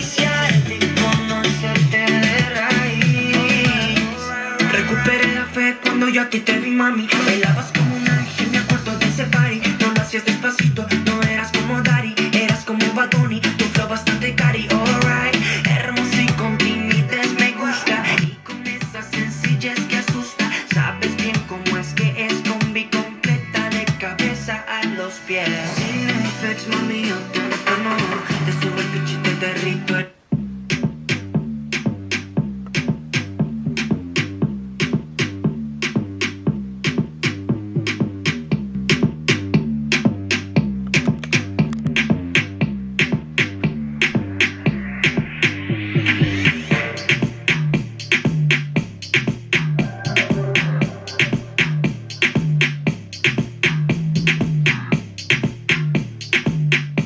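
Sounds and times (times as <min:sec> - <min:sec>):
drum machine beat: 0:00.0 - 0:06.1, 0:07.0 - 0:24.4, 0:25.7 - 0:57.0
steady bass line: 0:00.0 - 0:24.7, 0:25.5 - 0:57.0
upbeat instrumental song on speaker: 0:00.0 - 0:57.0.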